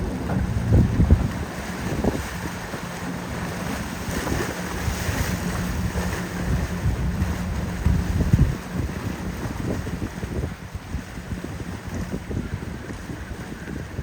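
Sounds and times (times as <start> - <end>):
boat motor: 0.0 - 14.0
waves: 0.0 - 14.0
wind buffeting microphone: 0.0 - 14.0.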